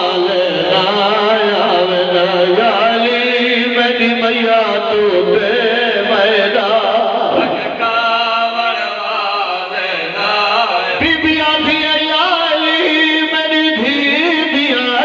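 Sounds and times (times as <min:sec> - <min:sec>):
man chanting a lament: 0:00.0 - 0:15.0.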